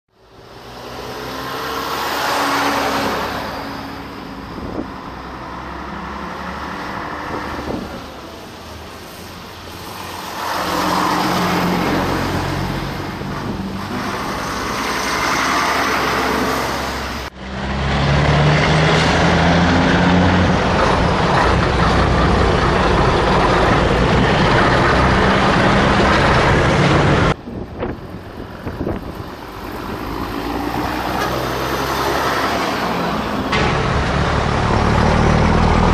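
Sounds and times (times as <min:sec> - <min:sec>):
diesel trucks driving past: 0:00.1 - 0:35.9.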